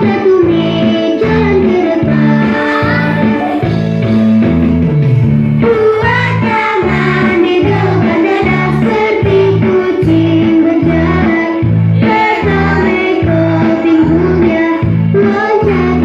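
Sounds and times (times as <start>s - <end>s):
song with sung melody and bass: 0.0s - 16.0s.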